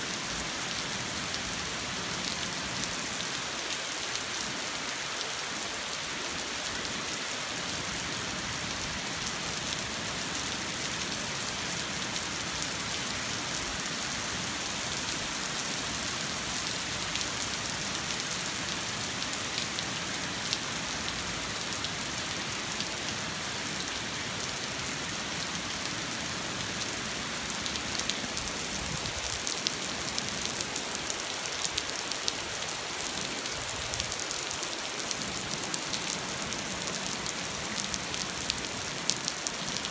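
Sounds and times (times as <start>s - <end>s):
rain pattering on street: 0.2s - 39.9s.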